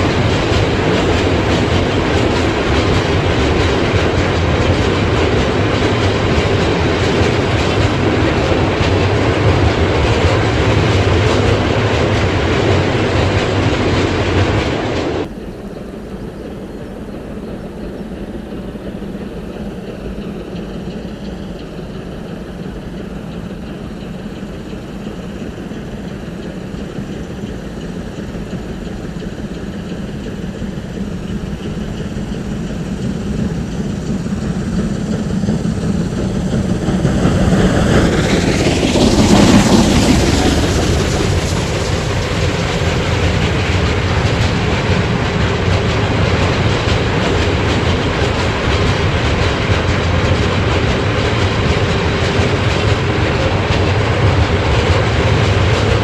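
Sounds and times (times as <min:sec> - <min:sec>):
steam locomotive passing: 0:00.0 - 0:56.0
train wheels clickety-clack: 0:00.0 - 0:56.0.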